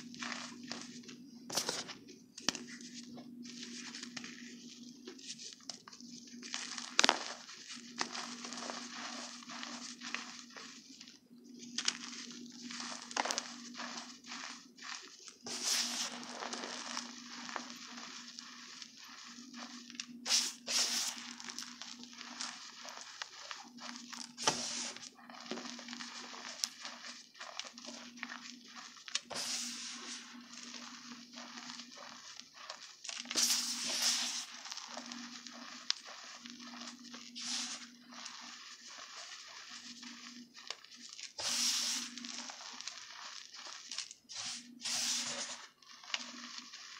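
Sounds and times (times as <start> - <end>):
hands crunching powder: 0.0 - 46.9.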